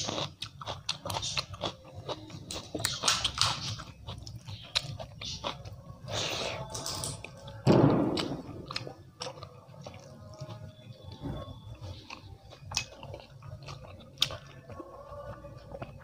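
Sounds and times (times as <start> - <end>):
wet chewing mouth sounds: 0.0 - 6.7, 8.2 - 16.0.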